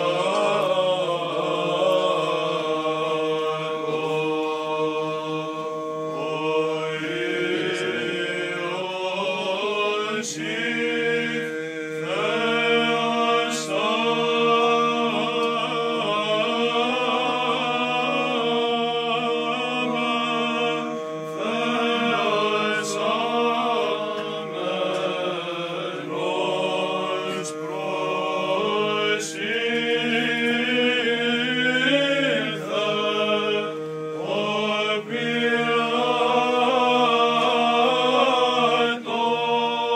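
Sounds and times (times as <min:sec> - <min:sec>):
men chanting hymns a cappella: 0:00.0 - 0:39.9.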